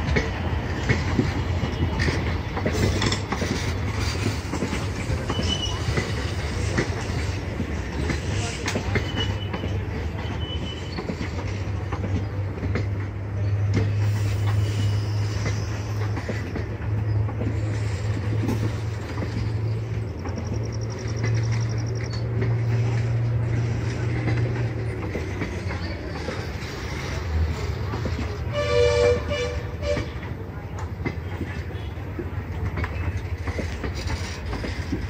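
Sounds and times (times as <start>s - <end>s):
train rumble: 0.0s - 35.0s
train wheels clicking over rail joints: 0.0s - 35.0s.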